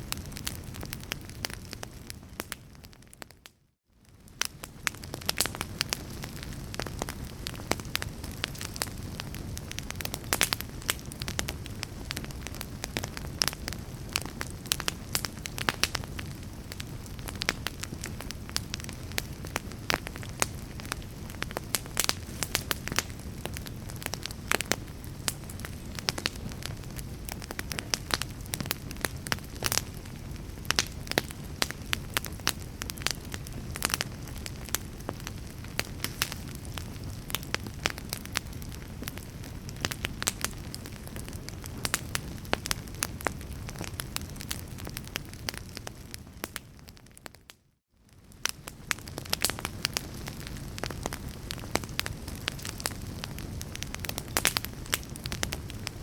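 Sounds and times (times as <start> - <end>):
fire popping and snapping: 0.0 - 56.0
low fire rumble: 0.0 - 56.0.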